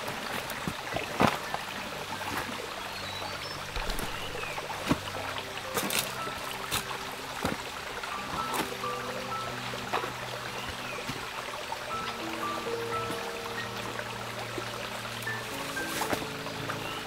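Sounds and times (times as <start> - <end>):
stream water running over rocks: 0.0 - 17.0.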